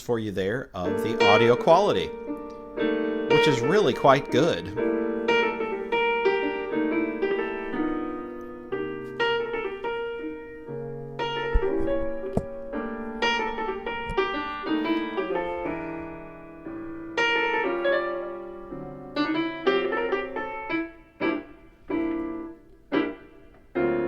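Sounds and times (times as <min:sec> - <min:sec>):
piano music: 0:00.8 - 0:24.0.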